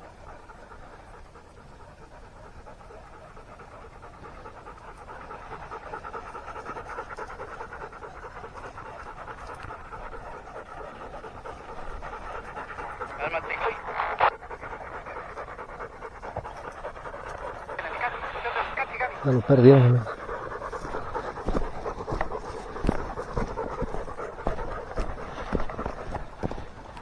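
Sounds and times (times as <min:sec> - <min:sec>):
dog panting rapidly: 0:00.0 - 0:27.0.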